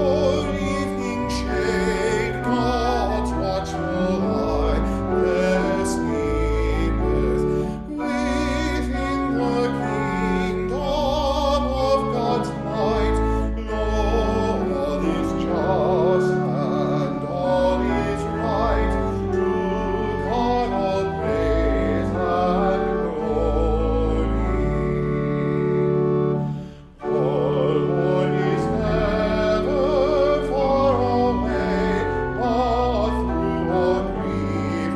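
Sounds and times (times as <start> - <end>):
person singing with vibrato: 0.0 - 34.9
sustained organ chords: 0.0 - 34.9.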